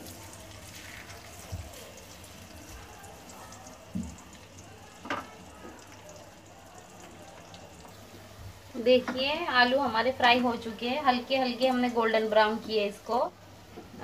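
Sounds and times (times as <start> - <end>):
potatoes sizzling in oil: 0.0 - 14.0.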